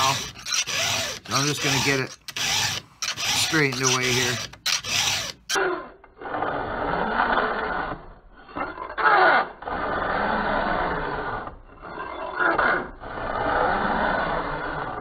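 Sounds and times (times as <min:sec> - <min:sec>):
file rasping on saw chain: 0:00.0 - 0:15.0.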